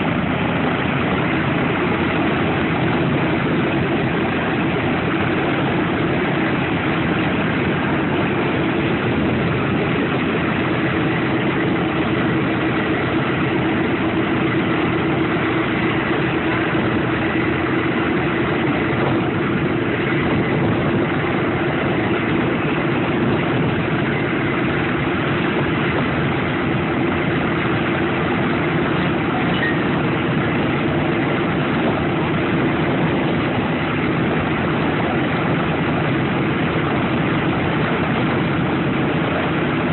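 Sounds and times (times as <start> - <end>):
radial piston engines idling: 0.0 - 39.9.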